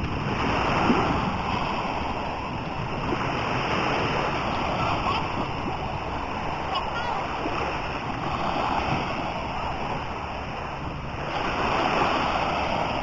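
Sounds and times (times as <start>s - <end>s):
sea waves washing on beach: 0.0s - 13.0s.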